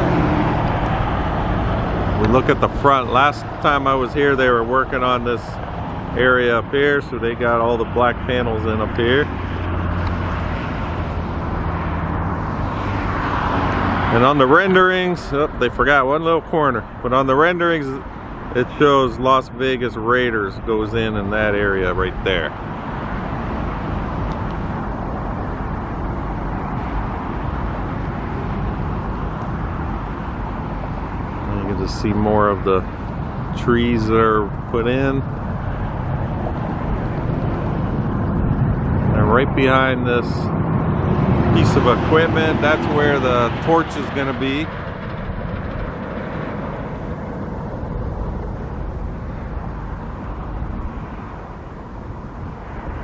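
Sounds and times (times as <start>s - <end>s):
low outdoor rumble: 0.0s - 53.0s.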